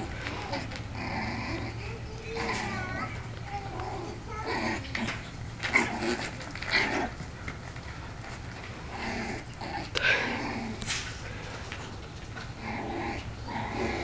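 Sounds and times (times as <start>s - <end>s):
dog growling playfully: 0.0s - 7.4s, 8.8s - 11.6s, 12.4s - 14.0s.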